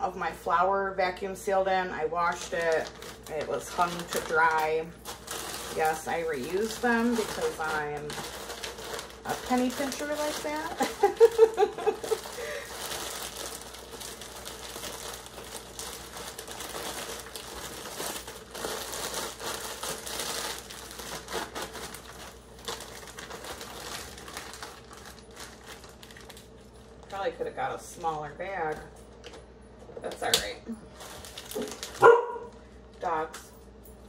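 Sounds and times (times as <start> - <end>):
plastic bags crinkling: 2.2 - 29.4, 30.2 - 33.1.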